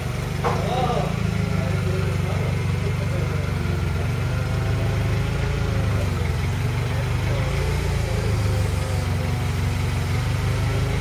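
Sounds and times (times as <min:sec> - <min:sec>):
forklift engine humming: 0:00.0 - 0:11.0.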